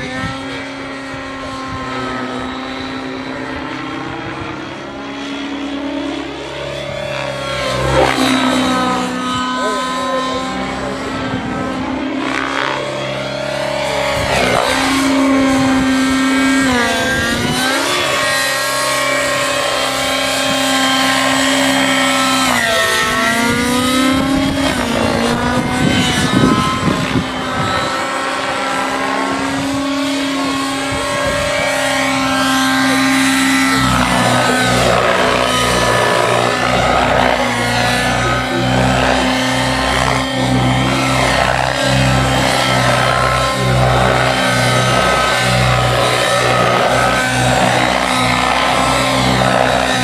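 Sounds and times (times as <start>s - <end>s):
rc helicopter engine and rotor: 0.0s - 50.0s.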